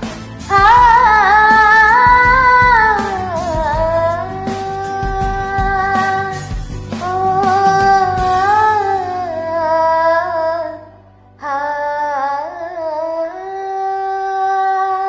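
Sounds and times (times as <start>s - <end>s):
woman singing wordless melody: 0.5s - 15.0s.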